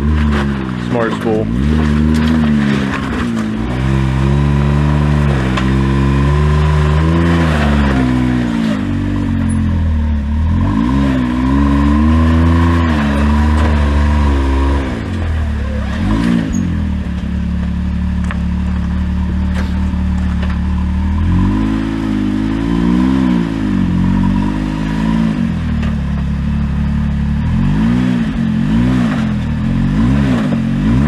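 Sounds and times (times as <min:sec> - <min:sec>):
utility vehicle engine revving: 0:00.0 - 0:31.0.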